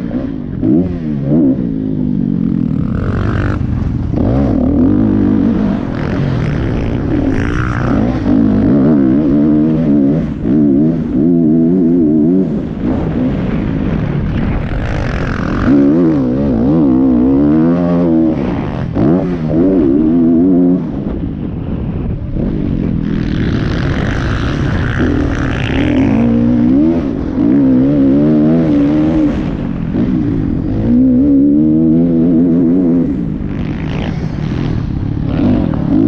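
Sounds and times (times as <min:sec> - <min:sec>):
motocross engine revving: 0:00.0 - 0:21.0, 0:22.4 - 0:36.0.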